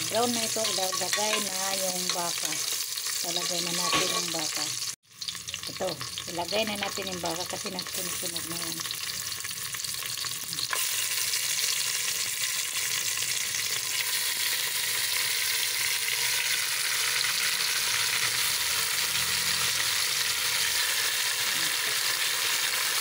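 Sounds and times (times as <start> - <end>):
beef sizzling in hot oil: 0.0 - 23.0.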